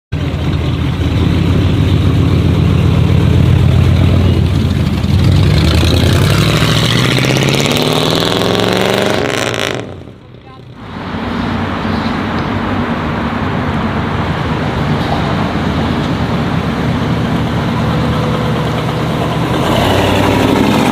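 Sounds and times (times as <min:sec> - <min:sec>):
car engine revving: 0:00.9 - 0:20.9.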